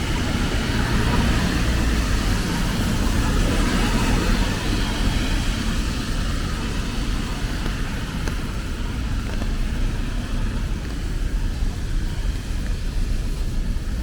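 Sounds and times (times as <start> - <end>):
cars passing on wet road: 0.0 - 14.0
low traffic rumble: 0.0 - 14.0.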